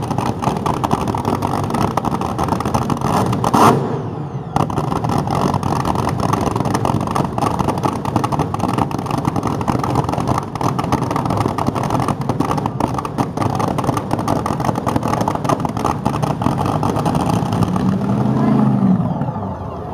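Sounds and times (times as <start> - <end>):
car engine running loudly: 0.0 - 19.8.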